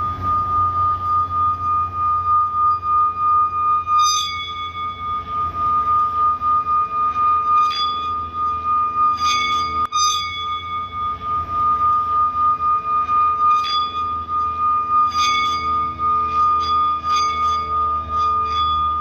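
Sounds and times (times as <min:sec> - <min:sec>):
low hum: 0:00.0 - 0:19.0
steady ringing high tone: 0:00.0 - 0:19.0
struck bell-like notes: 0:00.0 - 0:19.0.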